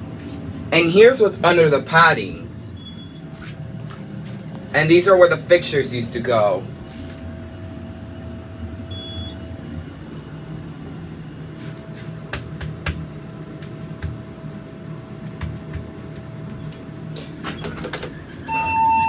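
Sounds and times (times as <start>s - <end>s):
elevator mechanical hum: 0.0s - 19.0s.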